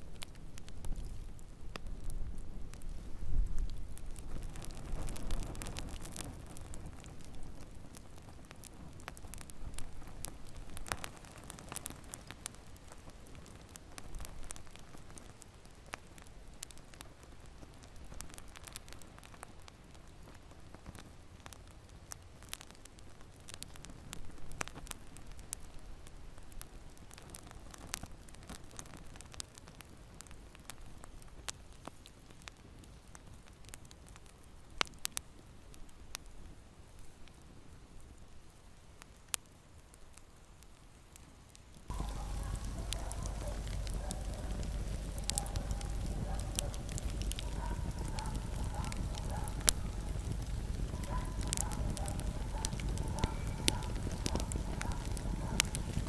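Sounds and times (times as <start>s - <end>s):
fire flames rumbling: 0.0s - 38.2s, 39.1s - 56.0s
logs crackling and popping: 0.0s - 56.0s.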